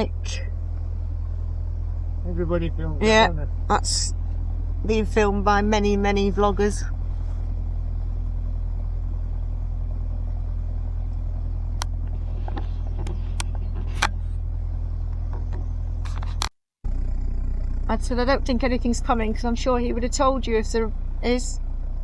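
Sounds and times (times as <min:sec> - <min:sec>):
diesel boat engine droning: 0:00.0 - 0:22.0.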